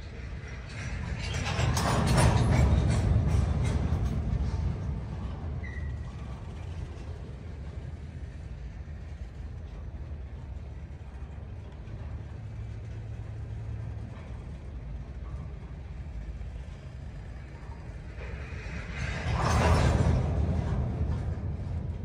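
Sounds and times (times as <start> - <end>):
faint engine hum: 0.0 - 22.0
freight train rumble: 0.0 - 22.0.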